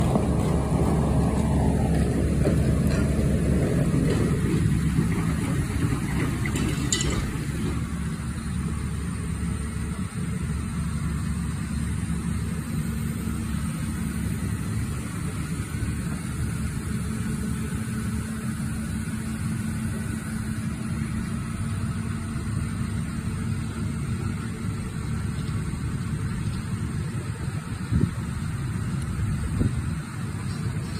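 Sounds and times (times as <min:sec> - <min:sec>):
excavator diesel engine humming: 0:00.0 - 0:30.9.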